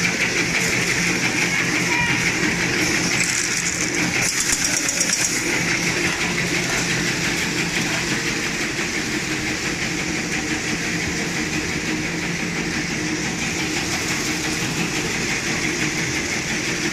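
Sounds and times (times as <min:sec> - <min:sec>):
packaging machine hum and hiss: 0:00.0 - 0:16.9.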